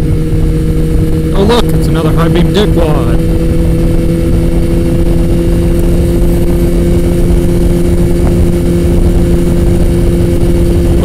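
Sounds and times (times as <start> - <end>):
motorcycle engine cruising: 0.0 - 11.0
wind buffeting microphone: 0.0 - 11.0.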